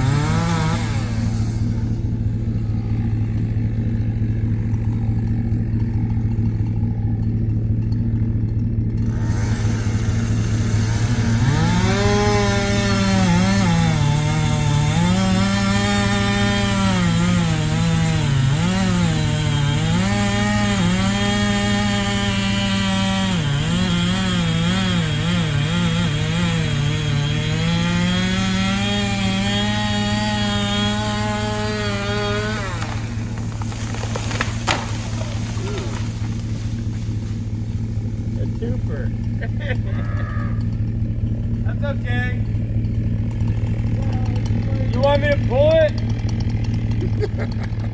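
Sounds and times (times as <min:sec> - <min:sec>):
tree trunk cracking: 0:00.0 - 0:38.4, 0:42.4 - 0:47.9
chainsaw cutting wood: 0:00.0 - 0:47.9.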